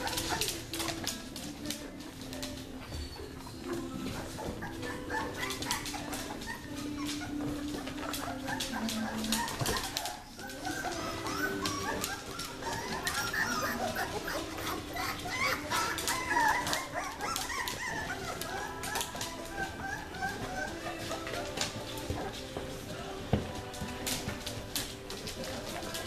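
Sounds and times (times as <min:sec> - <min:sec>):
claws clicking on tile floor: 0:00.0 - 0:26.0
puppies whining and yipping: 0:00.0 - 0:26.0.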